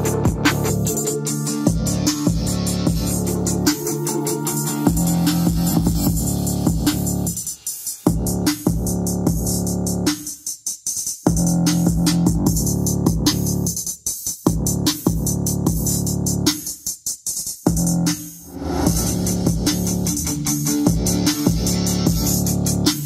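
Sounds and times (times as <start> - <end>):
electronic music with heavy bass: 0.0 - 23.0.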